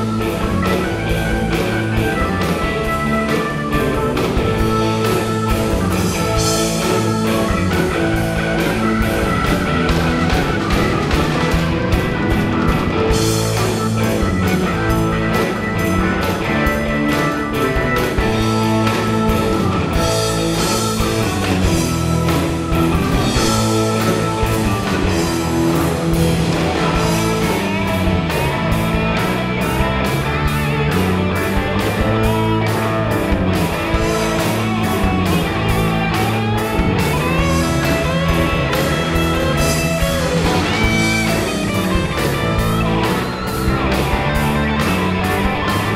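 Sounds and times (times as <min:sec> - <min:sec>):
drum kit beat: 0:00.0 - 0:45.9
electric guitar: 0:00.0 - 0:45.9.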